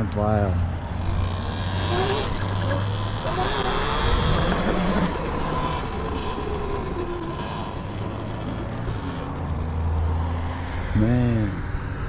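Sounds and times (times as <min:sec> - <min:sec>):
electric dirt bike riding: 0:00.0 - 0:12.0
electric motor whine: 0:00.8 - 0:11.0.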